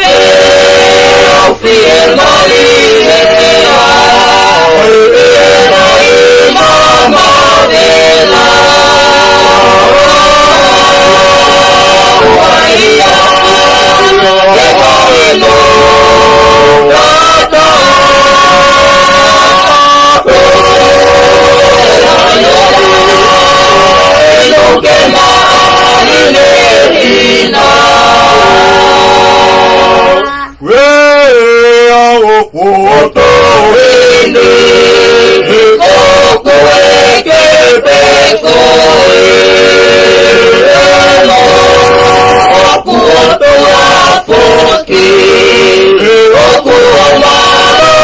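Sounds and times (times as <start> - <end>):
people singing a hymn unaccompanied: 0.0 - 48.0.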